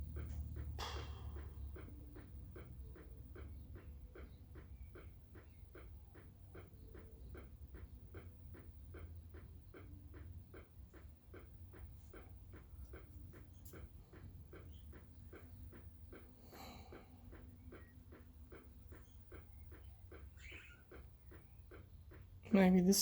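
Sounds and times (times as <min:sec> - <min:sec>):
turn-signal flasher ticking: 0:00.0 - 0:22.4
low steady hum: 0:00.0 - 0:23.0.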